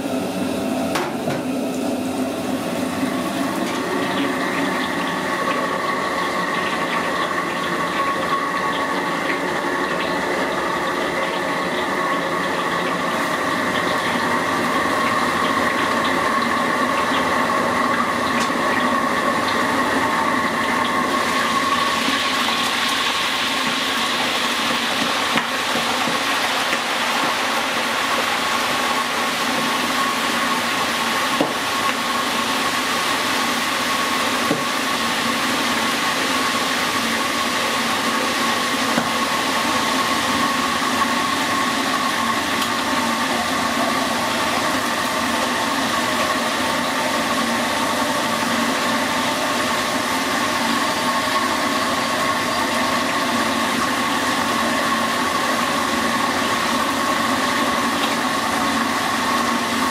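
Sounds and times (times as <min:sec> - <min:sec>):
deep-frying sizzle: 0:00.0 - 0:59.9
gas burner hum: 0:00.0 - 0:59.9.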